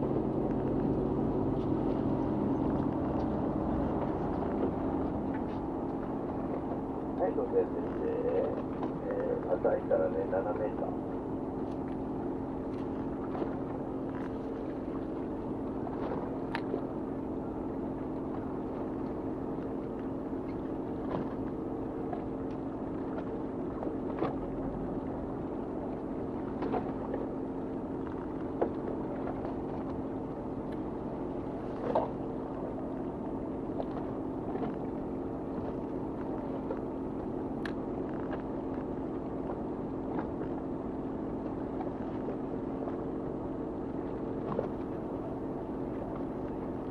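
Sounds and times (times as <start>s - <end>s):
boat engine humming: 0.0s - 46.9s.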